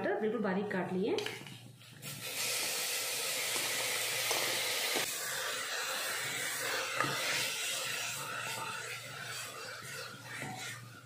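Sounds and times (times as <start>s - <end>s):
tomatoes sizzling in oil: 2.0s - 11.0s.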